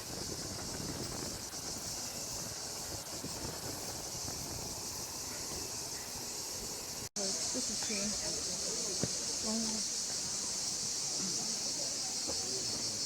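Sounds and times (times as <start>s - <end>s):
cicada chorus buzzing: 0.0s - 13.0s.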